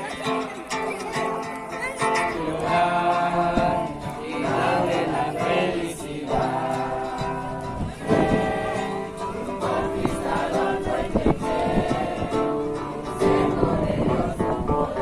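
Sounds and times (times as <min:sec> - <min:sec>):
group singing with music: 0:00.0 - 0:15.0.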